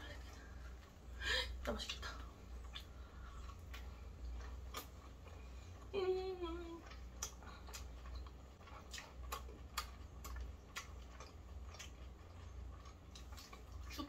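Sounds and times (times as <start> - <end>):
chewing fried chicken: 1.8 - 14.0.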